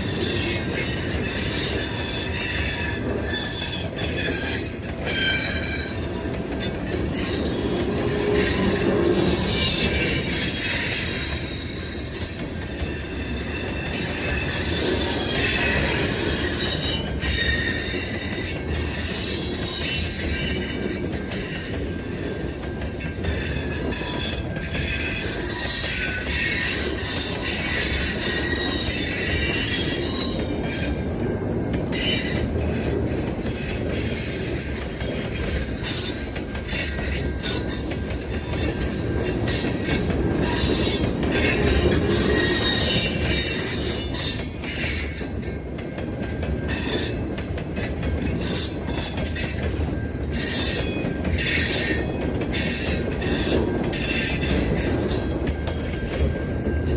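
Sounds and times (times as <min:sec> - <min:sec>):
train rumbling past: 0:00.0 - 0:56.9
train wheels squealing: 0:00.0 - 0:56.9.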